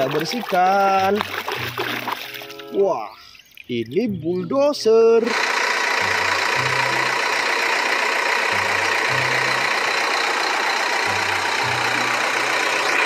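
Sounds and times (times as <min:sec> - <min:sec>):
backhoe diesel engine: 0:00.0 - 0:02.8, 0:04.1 - 0:13.0.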